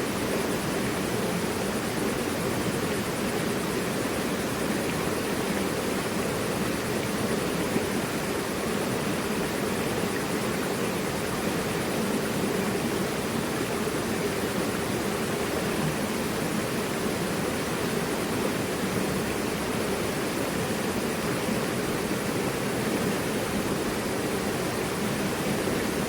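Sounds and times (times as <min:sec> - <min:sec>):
river rushing over rocks: 0:00.0 - 0:26.0.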